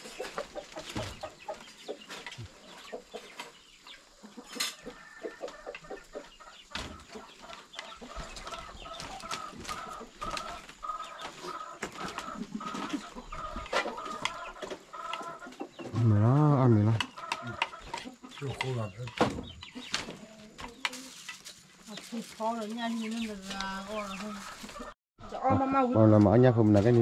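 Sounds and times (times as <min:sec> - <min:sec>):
chickens clucking: 0:00.0 - 0:26.2.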